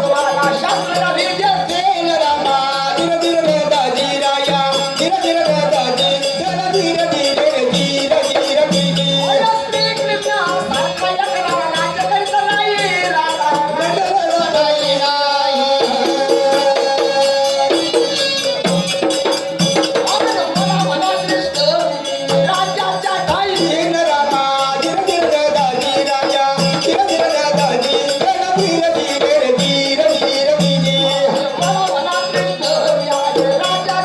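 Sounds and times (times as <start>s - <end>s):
jingling percussion: 0.0s - 34.0s.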